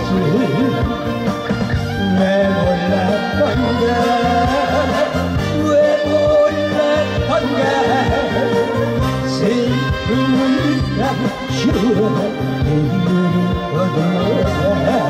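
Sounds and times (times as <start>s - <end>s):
man singing into a microphone: 0.0s - 1.2s, 1.9s - 15.0s
instrumental backing music: 0.0s - 15.0s.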